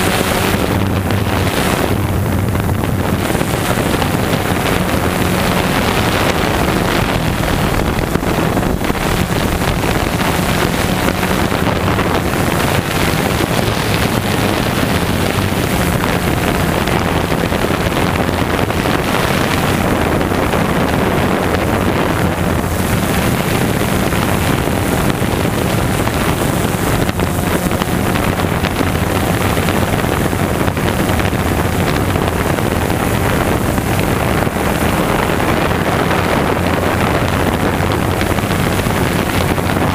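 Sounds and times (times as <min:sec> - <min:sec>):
drone motors humming: 0:00.0 - 0:39.9
wind on microphone: 0:00.0 - 0:39.9.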